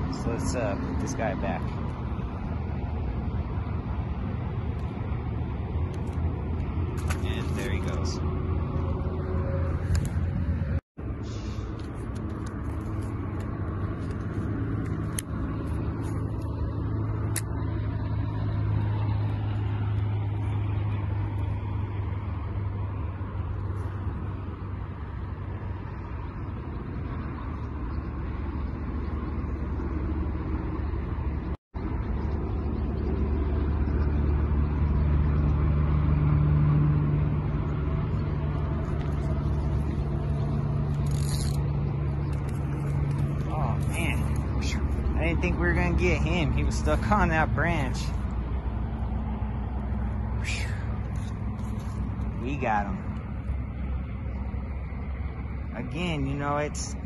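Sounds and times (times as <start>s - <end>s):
low hum of motor vehicles: 0.0s - 57.0s.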